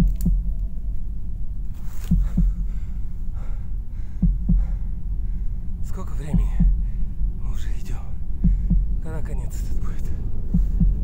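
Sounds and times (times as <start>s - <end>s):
heartbeat thumps: 0.0s - 0.7s, 2.1s - 9.7s, 10.4s - 11.0s
low steady drone: 0.0s - 11.0s.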